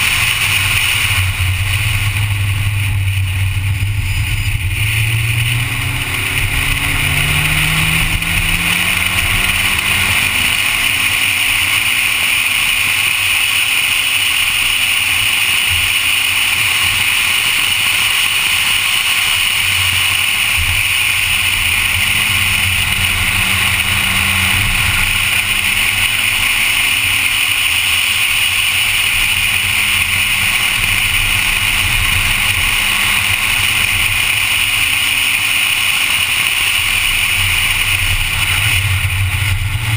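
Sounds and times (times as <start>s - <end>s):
car engine accelerating: 0.0s - 39.9s
wind and road noise hiss: 0.0s - 39.9s.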